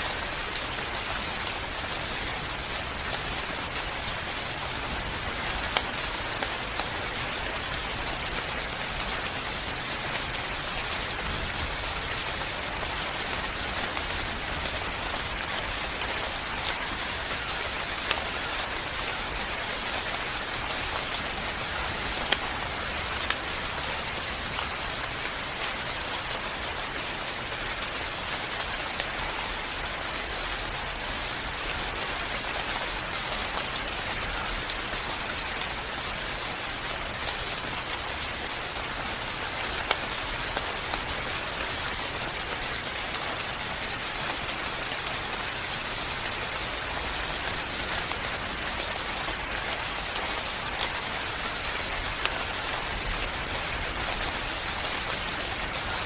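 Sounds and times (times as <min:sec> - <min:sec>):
individual raindrops: 0:00.0 - 0:56.0
steady rain hiss: 0:00.0 - 0:56.0.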